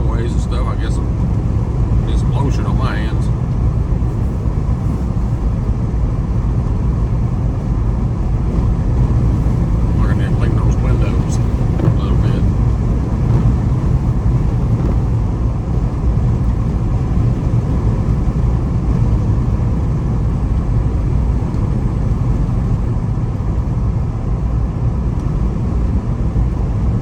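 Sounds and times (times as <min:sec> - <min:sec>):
road and engine noise in car: 0:00.0 - 0:27.0.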